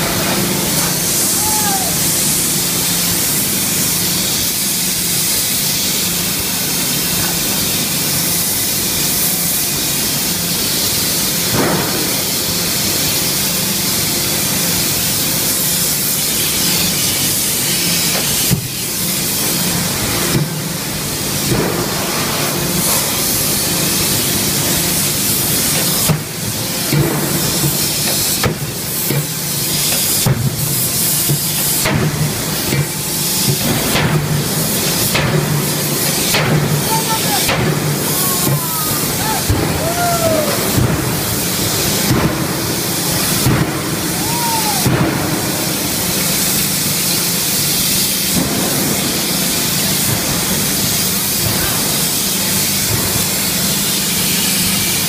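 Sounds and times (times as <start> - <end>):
loud steady hiss: 0.0 - 55.0.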